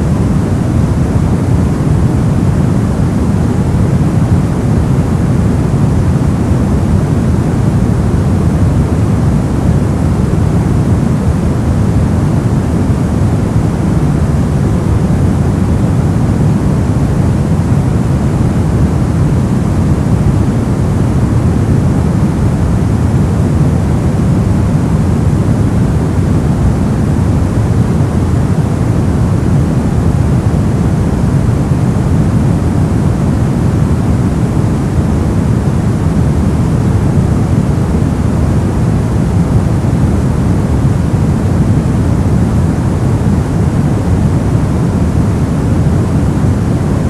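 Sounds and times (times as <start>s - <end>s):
brown noise: 0.0s - 47.0s.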